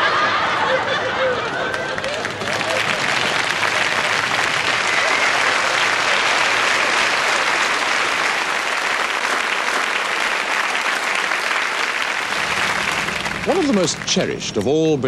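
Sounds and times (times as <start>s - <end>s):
audience applauding: 1.5s - 14.4s.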